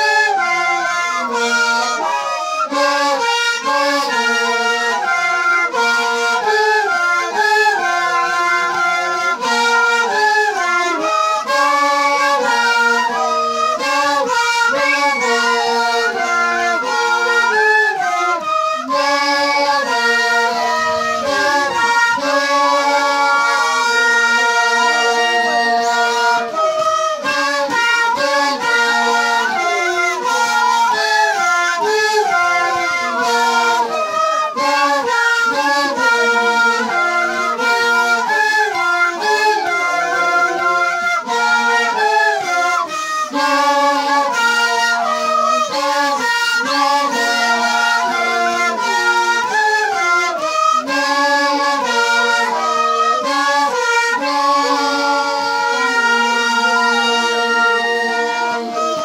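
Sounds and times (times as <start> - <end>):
duct flutes playing together: 0.0 - 59.0.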